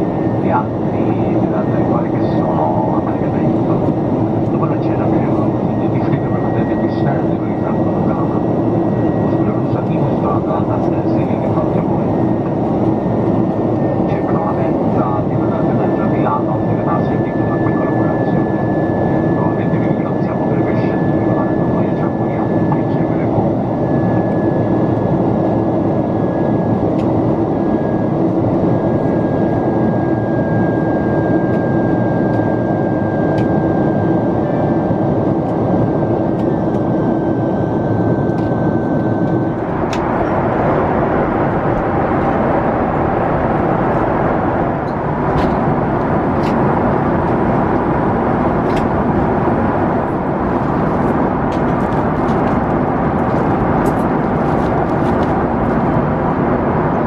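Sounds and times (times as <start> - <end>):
jet cabin engine and airflow noise: 0.0 - 57.0.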